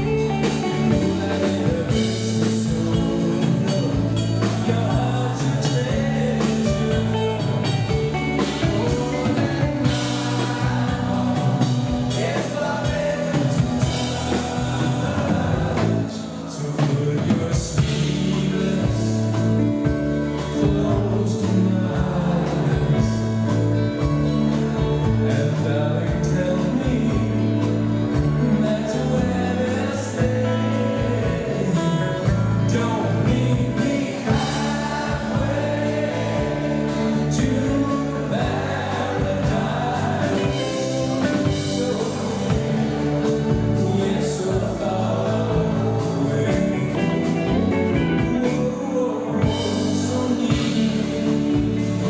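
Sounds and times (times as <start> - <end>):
man singing: 0.0 - 52.0
rock band playing: 0.0 - 52.0.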